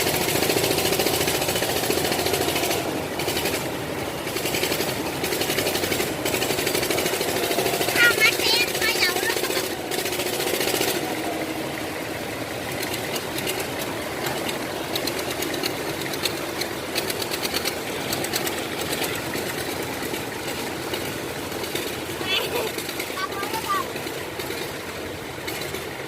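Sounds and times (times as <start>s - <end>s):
diesel engine running: 0.0s - 26.0s
mechanical clatter: 0.0s - 26.0s.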